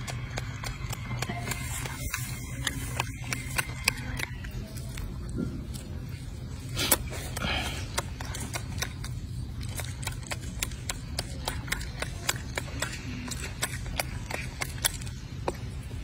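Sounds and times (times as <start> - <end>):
monkey chewing fruit crunching: 0.0 - 16.0.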